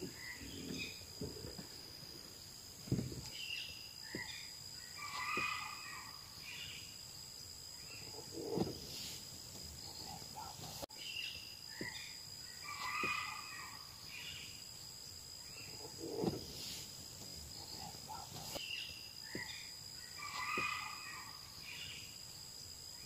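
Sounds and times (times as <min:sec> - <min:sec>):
bird calls: 0:00.0 - 0:14.7, 0:15.4 - 0:22.2
high insect drone: 0:00.0 - 0:23.0.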